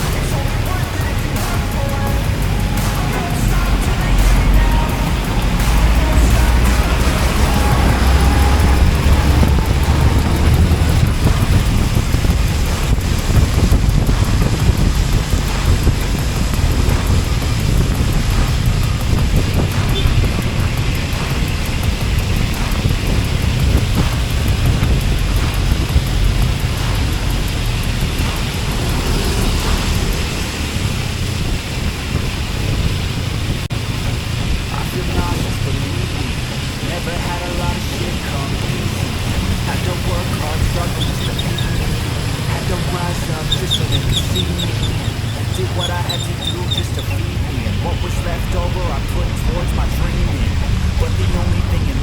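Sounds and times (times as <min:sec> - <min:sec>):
scooter engine rumble: 0:00.0 - 0:52.0
wind rushing over microphone: 0:00.0 - 0:52.0.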